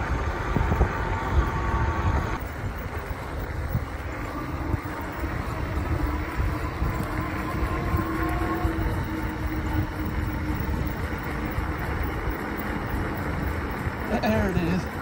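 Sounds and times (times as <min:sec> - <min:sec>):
tyre noise on pavement: 0:00.0 - 0:15.0
wind over microphone: 0:00.0 - 0:15.0.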